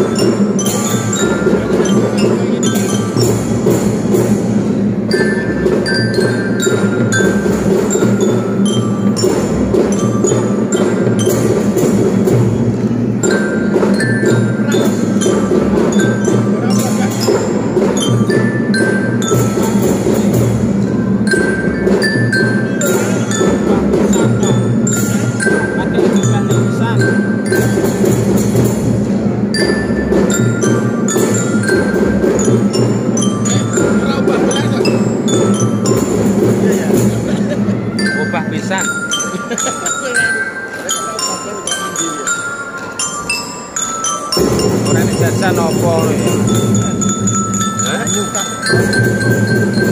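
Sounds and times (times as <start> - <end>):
bell lyra melody: 0.0 - 49.9
steady drumming: 0.0 - 49.9.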